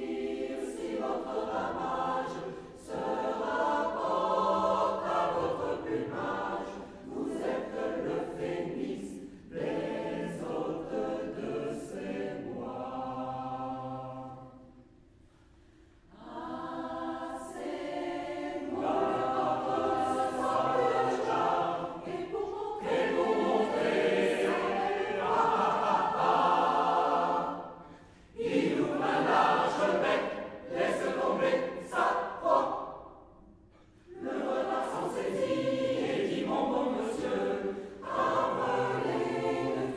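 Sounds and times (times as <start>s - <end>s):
choir singing: 0.0s - 15.0s, 16.0s - 39.9s.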